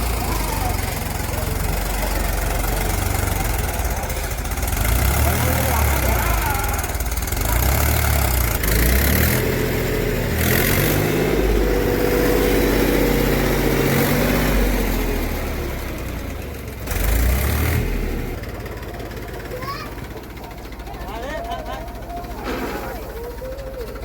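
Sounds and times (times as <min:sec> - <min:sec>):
diesel engine running and revving: 0:00.0 - 0:24.0.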